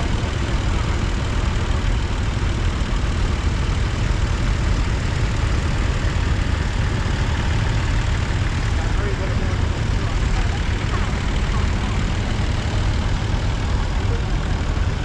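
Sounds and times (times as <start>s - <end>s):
tractor engines idling: 0.0s - 15.0s.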